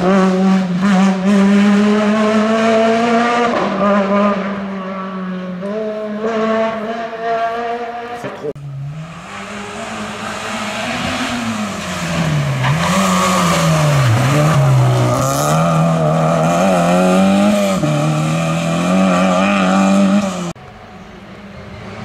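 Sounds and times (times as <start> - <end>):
rally car engine at high revs: 0.0 - 20.6
distant engine: 0.0 - 22.0.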